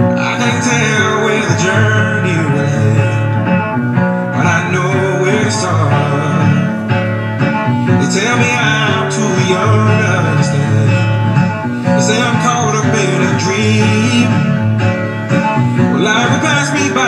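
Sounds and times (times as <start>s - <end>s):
song with guitar: 0.0s - 17.0s.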